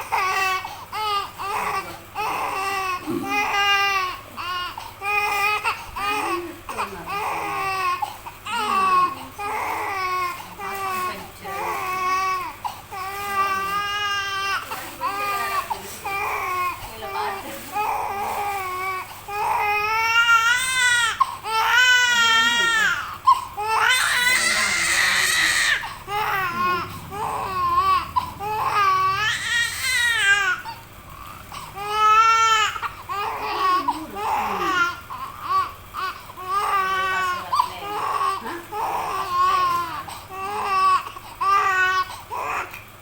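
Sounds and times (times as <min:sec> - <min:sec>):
small child crying: 0:00.1 - 0:30.8, 0:31.8 - 0:42.8.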